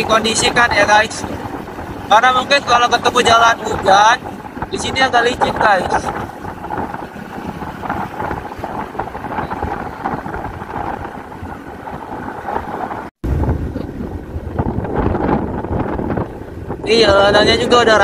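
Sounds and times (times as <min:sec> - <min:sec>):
motorcycle road noise: 0:00.0 - 0:18.0
wind rushing over microphone: 0:00.0 - 0:18.0.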